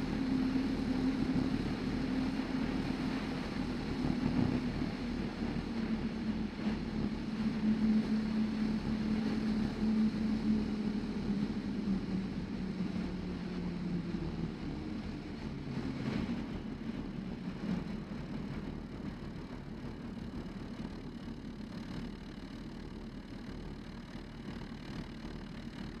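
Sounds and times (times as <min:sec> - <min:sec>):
light aircraft engine idling: 0:00.0 - 0:26.0.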